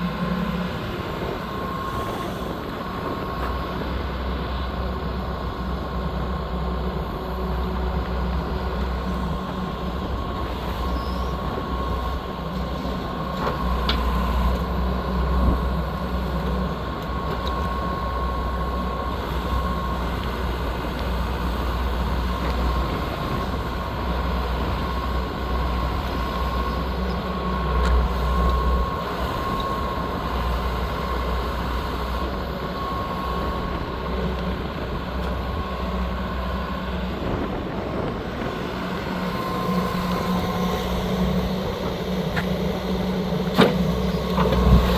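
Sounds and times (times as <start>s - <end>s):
excavator diesel engine running: 0.0s - 44.9s
steady whine: 0.0s - 44.9s.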